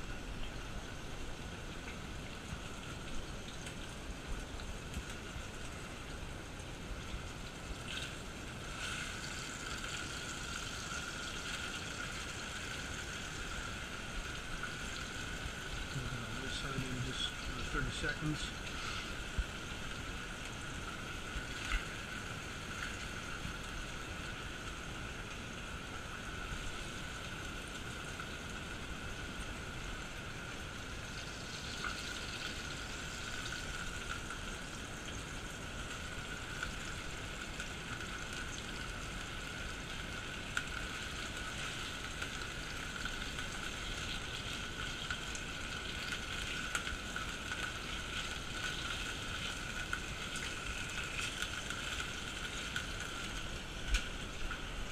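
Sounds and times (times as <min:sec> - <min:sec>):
fish sizzling in oil: 0:00.0 - 0:54.9.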